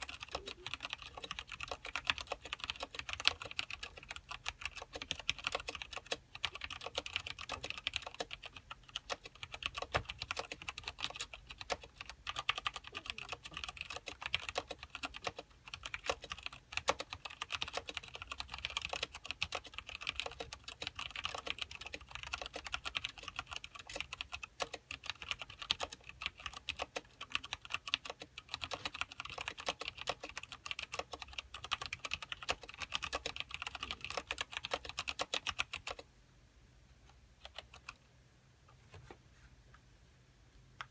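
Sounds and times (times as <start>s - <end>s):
fast typing on mechanical keyboard: 0.0s - 36.1s, 37.4s - 38.0s.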